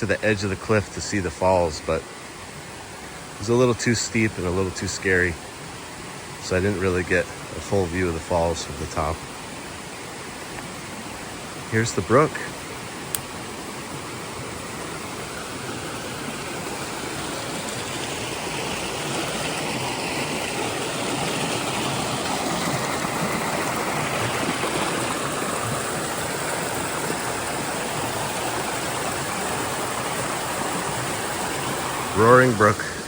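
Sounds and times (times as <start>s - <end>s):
fast-flowing brook rushing: 0.0s - 33.0s.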